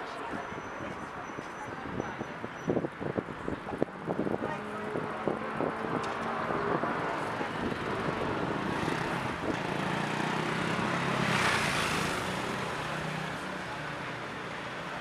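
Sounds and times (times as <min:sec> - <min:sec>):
background traffic: 0:00.0 - 0:15.0.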